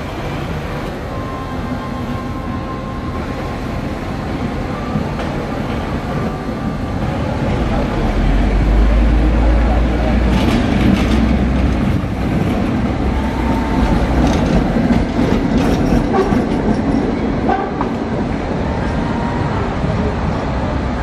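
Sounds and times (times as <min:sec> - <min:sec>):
tram rumbling on rails: 0:00.0 - 0:21.0.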